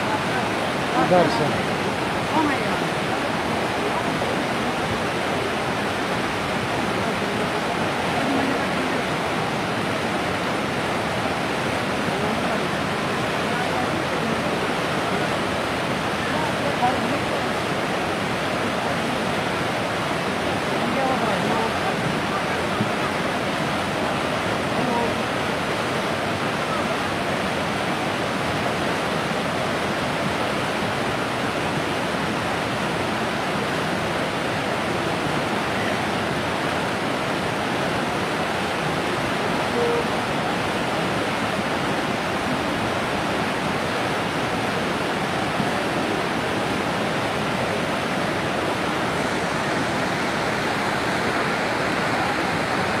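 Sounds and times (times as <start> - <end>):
muddy river rushing: 0.0 - 53.0.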